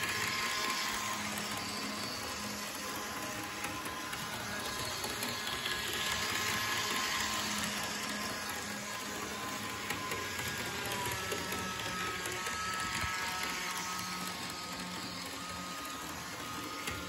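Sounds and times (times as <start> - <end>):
model train motor whir: 0.0 - 17.0
wheels clicking on rails: 0.0 - 17.0.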